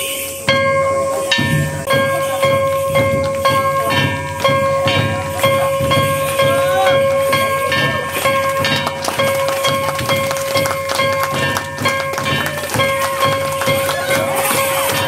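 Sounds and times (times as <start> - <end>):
taiko drum strokes: 0.0 - 15.0.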